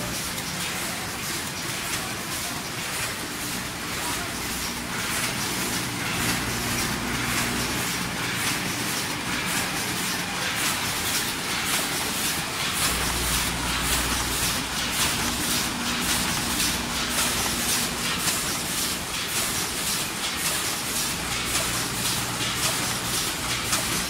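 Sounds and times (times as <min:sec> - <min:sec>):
packaging machine clatter: 0:00.0 - 0:24.0
low machine hum: 0:02.8 - 0:24.0.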